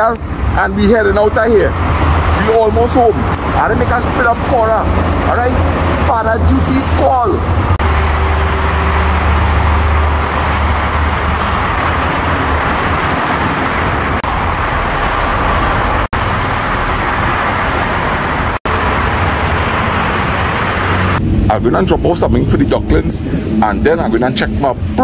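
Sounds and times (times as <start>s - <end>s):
motorcycle engine hum: 0.0s - 25.0s
wind and road noise: 0.0s - 25.0s.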